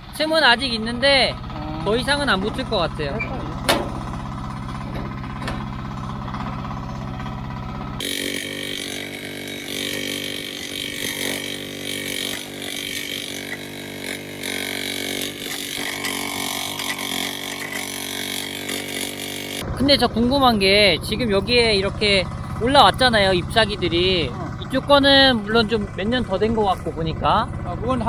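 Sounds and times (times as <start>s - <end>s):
excavator engine under load: 0.0s - 28.0s
small engine idling: 0.0s - 28.0s.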